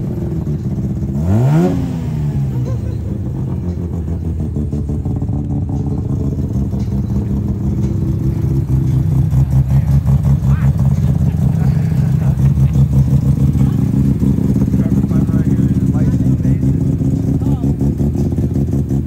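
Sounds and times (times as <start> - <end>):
rotary engine revving and idling: 0.0 - 19.0.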